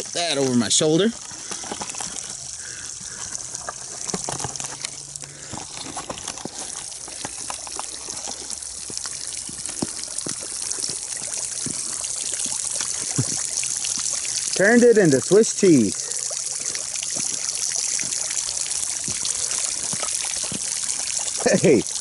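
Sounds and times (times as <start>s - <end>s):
water spurting and trickling: 0.0s - 22.0s.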